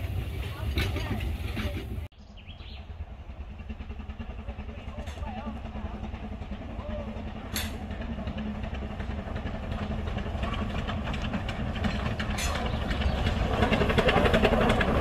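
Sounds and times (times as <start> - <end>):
steam train approaching: 0.0 - 15.0
train wheels rumbling and clattering: 0.0 - 15.0.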